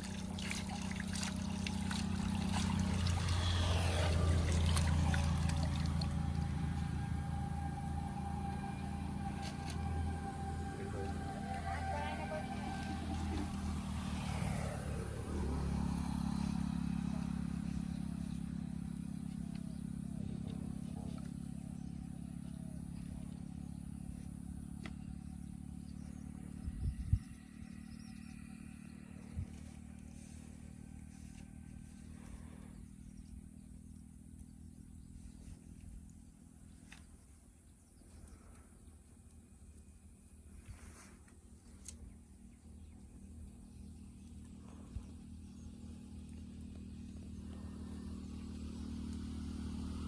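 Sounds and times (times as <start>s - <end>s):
motor engine droning: 0.0s - 50.0s.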